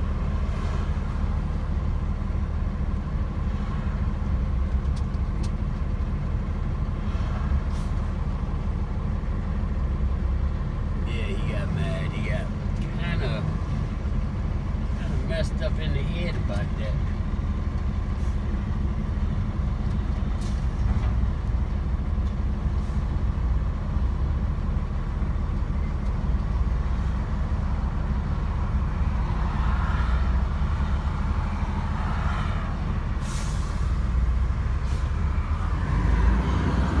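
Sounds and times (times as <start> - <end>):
truck engine rumbling: 0.0 - 37.0.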